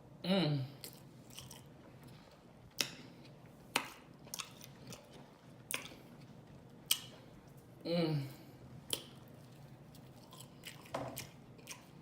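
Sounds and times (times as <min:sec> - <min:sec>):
quiet chewing: 0:00.8 - 0:07.8, 0:08.8 - 0:12.0.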